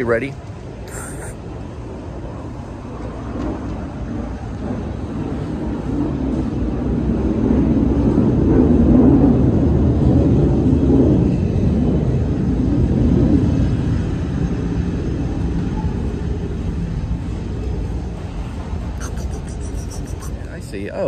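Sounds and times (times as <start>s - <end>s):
aircraft rumble overhead: 0.0s - 21.0s.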